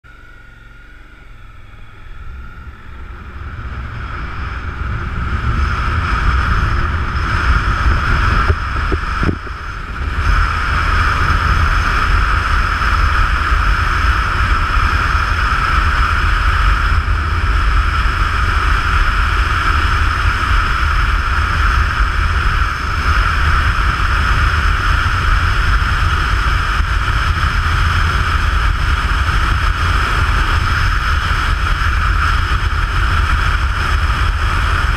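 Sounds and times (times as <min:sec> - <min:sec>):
motorcycle engine running: 0:00.0 - 0:34.9
wind rushing over microphone: 0:01.3 - 0:34.9.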